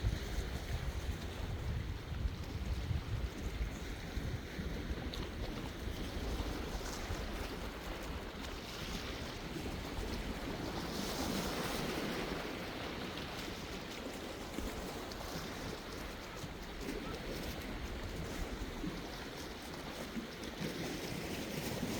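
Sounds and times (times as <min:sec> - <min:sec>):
wind rumble on microphone: 0:00.0 - 0:21.9.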